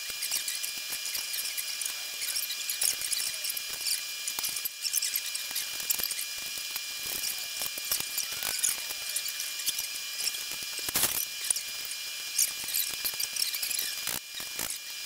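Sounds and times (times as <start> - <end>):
tool scrape: 0.0 - 14.9.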